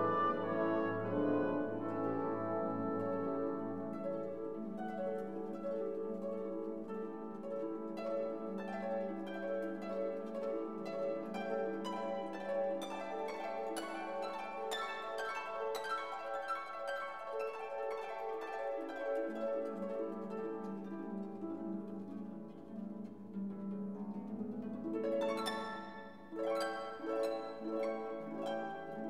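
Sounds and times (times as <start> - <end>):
plucked harp-like notes: 0.0 - 29.0.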